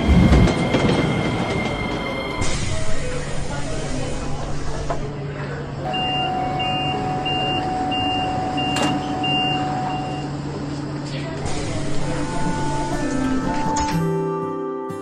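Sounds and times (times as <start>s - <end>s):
train rumble: 0.0s - 13.9s.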